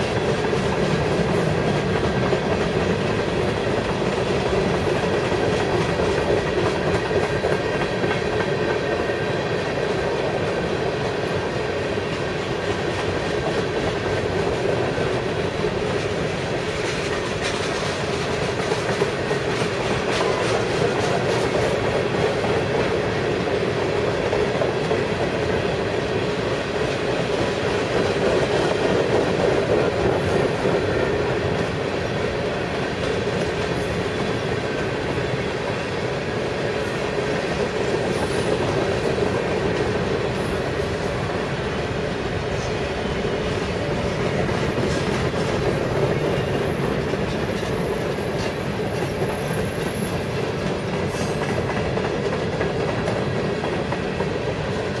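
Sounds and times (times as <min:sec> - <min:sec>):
freight train rolling past: 0:00.0 - 0:55.0
steel wheels on rails: 0:00.0 - 0:55.0.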